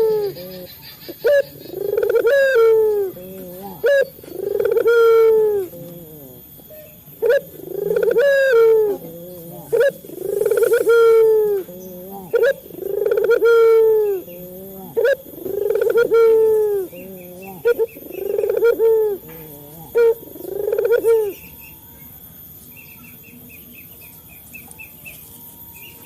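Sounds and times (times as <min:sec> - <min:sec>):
dove cooing: 0:00.0 - 0:21.8.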